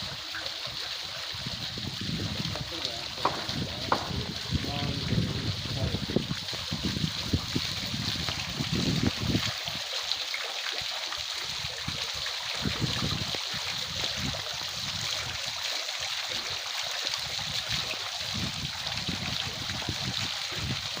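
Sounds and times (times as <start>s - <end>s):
fountain water trickling and splashing: 0.0s - 21.0s.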